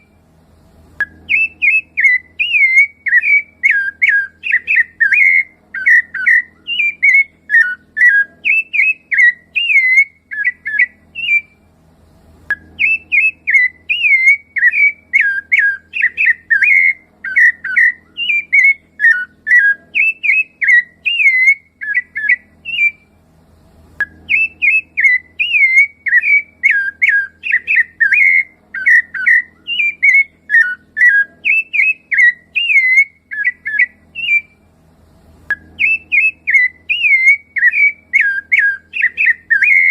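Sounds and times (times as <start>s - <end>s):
thrush singing whistled notes: 0.0s - 11.8s, 12.4s - 39.9s.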